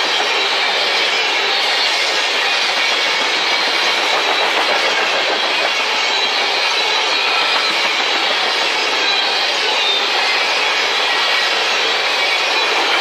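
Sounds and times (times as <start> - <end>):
steel wheels running on rails: 0.0 - 13.0.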